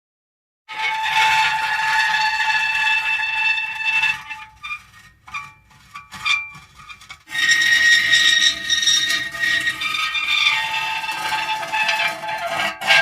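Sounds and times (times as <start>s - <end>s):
metal creaking squeals: 0.7s - 13.0s.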